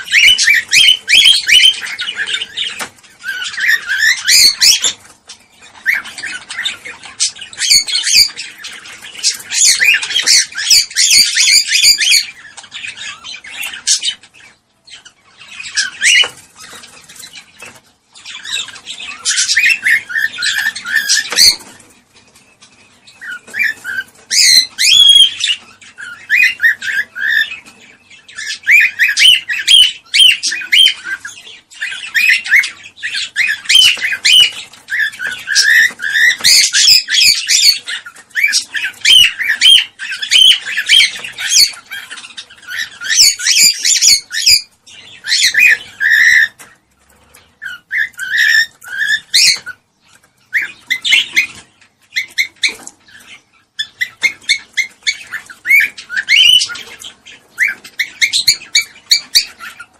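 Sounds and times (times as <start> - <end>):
cockatiels chirping and warbling: 0.0 - 59.9.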